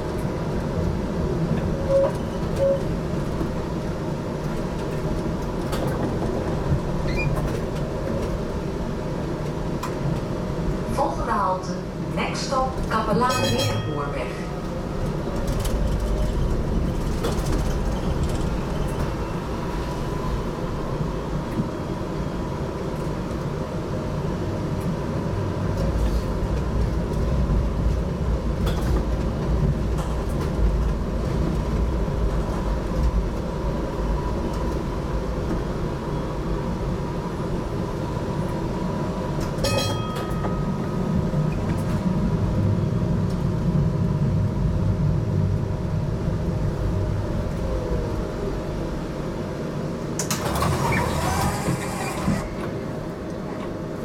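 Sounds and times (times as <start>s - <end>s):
tram wheels rumbling on track: 0.0s - 54.0s.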